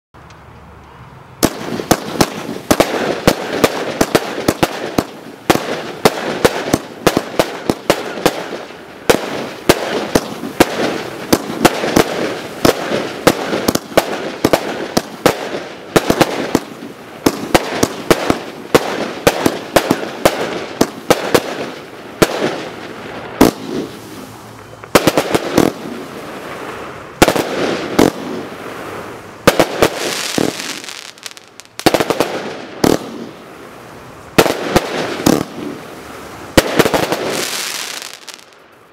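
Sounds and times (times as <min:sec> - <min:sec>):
firework bangs: 0:01.4 - 0:38.7.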